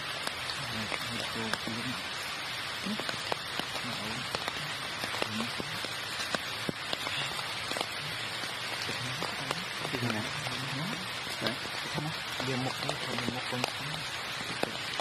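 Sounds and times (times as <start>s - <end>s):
crackling hiss with clicks: 0.0s - 15.0s.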